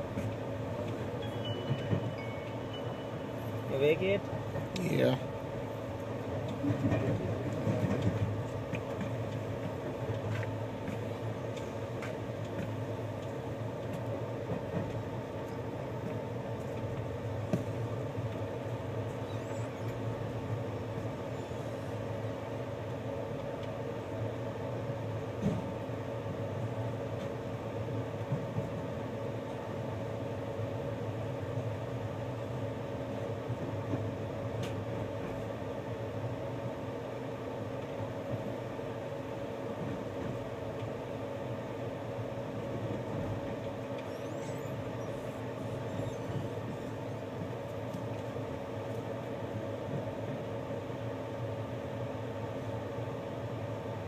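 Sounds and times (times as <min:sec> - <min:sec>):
train running noise inside carriage: 0:00.0 - 0:54.0.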